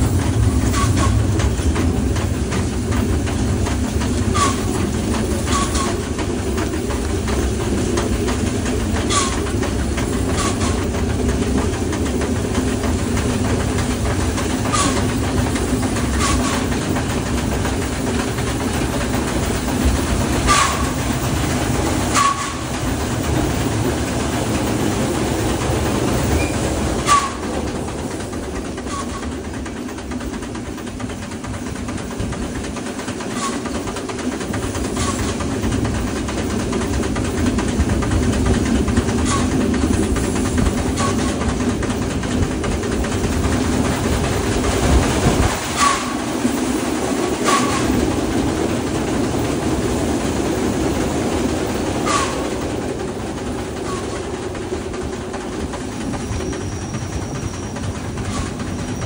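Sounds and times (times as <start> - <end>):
wheels clicking over rail joints: 0.0 - 59.0
wheels rumbling on rail: 0.0 - 59.0.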